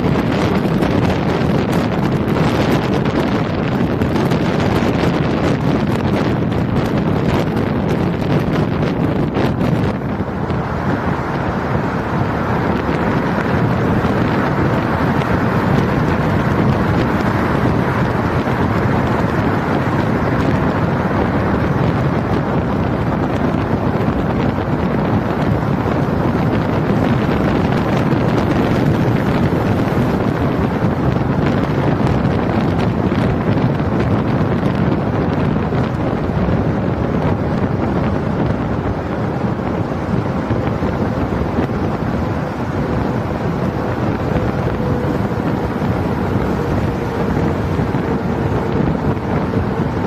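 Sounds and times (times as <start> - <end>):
road and traffic noise: 0.0 - 50.0
wind rushing on microphone: 0.0 - 50.0.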